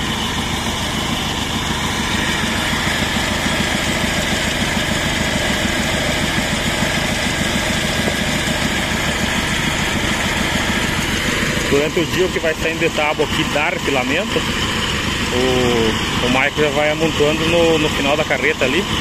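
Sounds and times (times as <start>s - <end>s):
sawmill engine idling: 0.0s - 19.0s.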